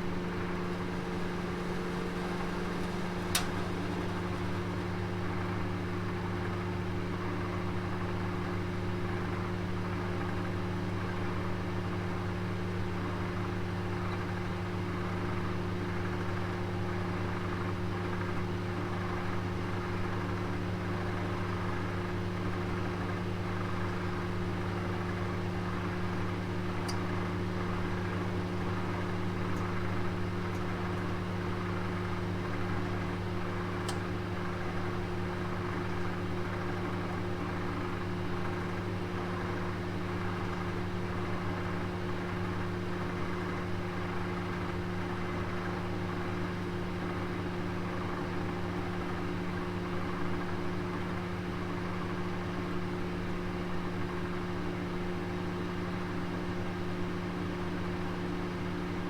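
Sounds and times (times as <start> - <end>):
oven humming and hissing: 0.0 - 59.0.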